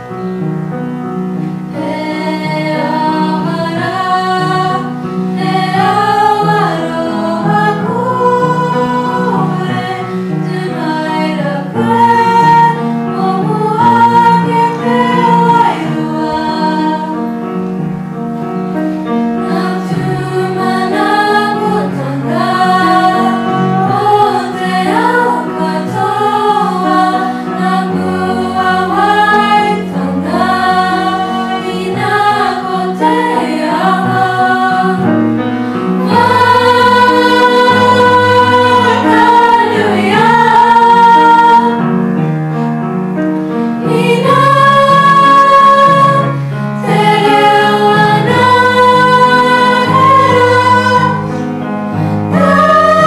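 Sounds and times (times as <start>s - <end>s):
girls' choir singing: 1.6s - 17.5s, 19.2s - 42.0s, 43.6s - 53.0s.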